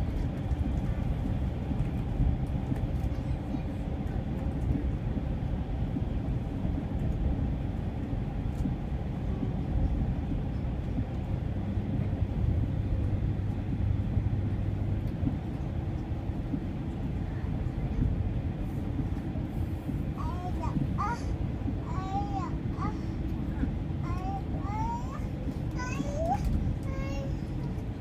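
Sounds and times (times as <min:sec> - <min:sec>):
train rumble inside passenger car: 0:00.0 - 0:28.0.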